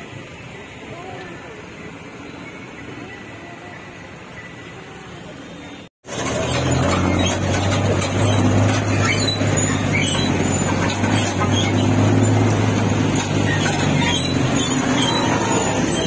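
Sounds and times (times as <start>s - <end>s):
street traffic noise: 0.0s - 16.0s
vehicle engine humming: 0.0s - 16.0s.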